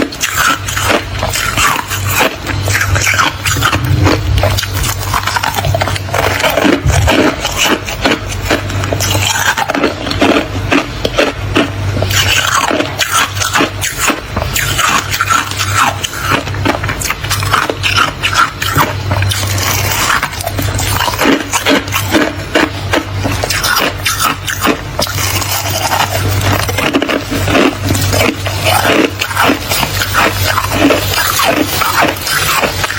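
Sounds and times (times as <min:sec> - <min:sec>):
frost crunching and crackling: 0:00.0 - 0:32.9
steady low hum: 0:00.0 - 0:32.9.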